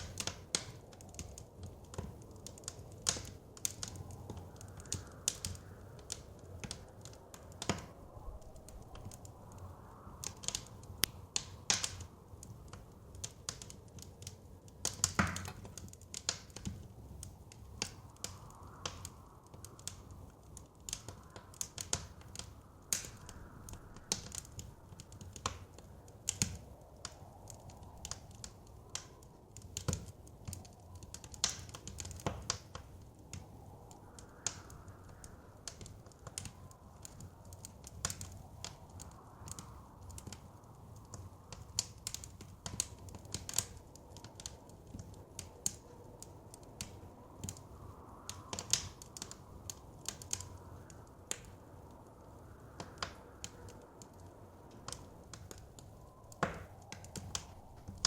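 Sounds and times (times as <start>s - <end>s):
low rumble of wind: 0.0s - 58.0s
wood fire crackling: 0.0s - 58.0s.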